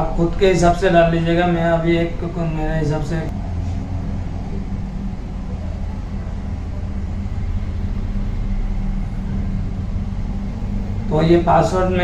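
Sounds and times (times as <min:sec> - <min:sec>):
low rumble with hum: 0:00.0 - 0:12.0.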